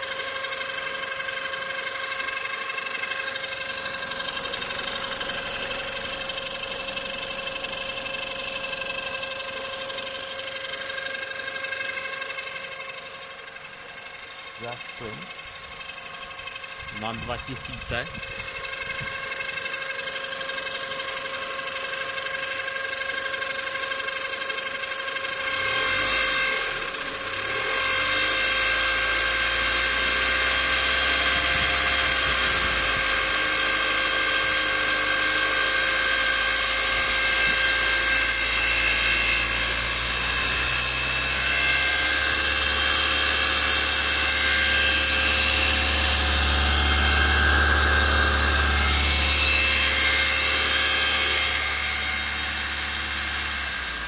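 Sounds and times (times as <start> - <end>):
car engine idling with whining buzz: 0.0 - 54.0.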